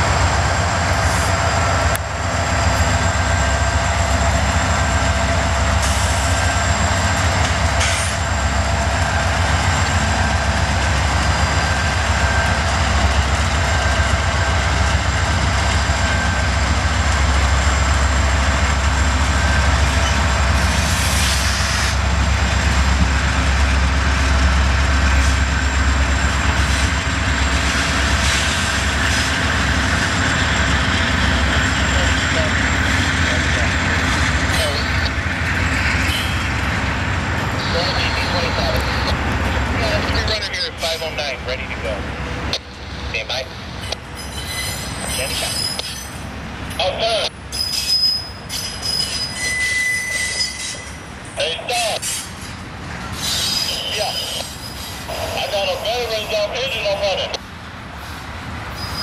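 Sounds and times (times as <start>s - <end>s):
diesel locomotive engine rumble: 0.0s - 59.0s
train wheels rolling on rail: 0.0s - 59.0s.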